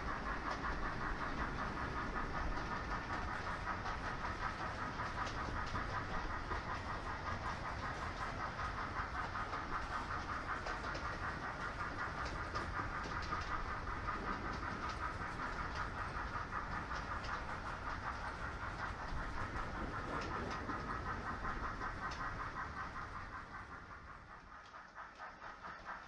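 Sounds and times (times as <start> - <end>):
model train wheels whirring on rail: 0.0 - 26.0.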